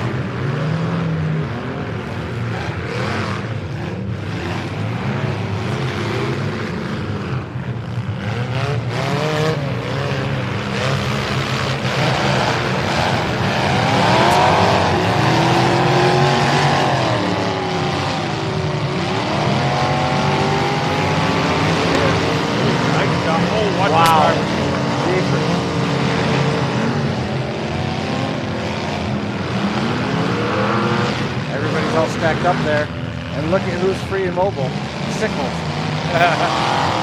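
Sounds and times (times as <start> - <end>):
truck engines revving hard: 0.0 - 37.0.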